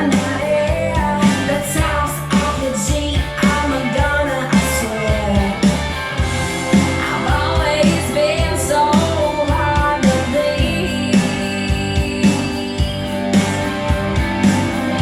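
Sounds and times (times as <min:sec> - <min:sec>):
pop-rock song with singing: 0:00.0 - 0:15.0
steady kick-drum beat: 0:00.0 - 0:15.0.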